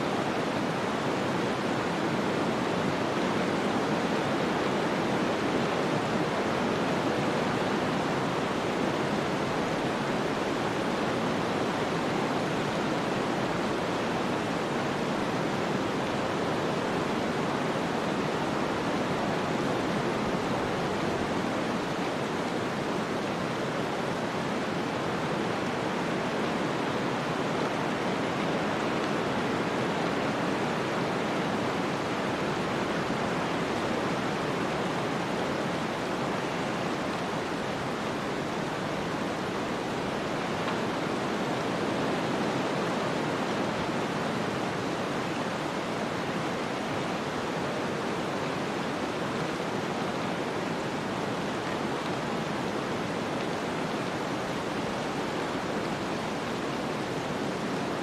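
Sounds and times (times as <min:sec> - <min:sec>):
wind-driven snowstorm noise: 0:00.0 - 0:58.0.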